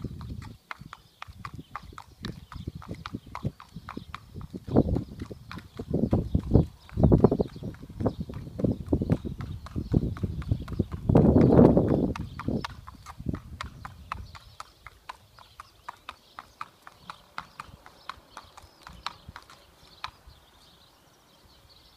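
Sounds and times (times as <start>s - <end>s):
horse hooves clip-clopping: 0.0s - 20.8s.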